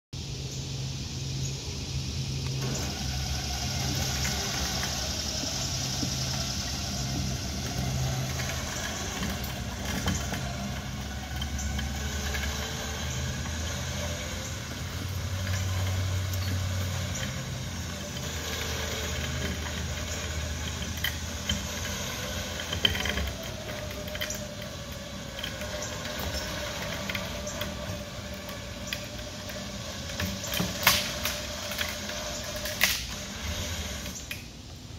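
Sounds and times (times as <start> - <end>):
truck engine running: 1.8 - 34.5.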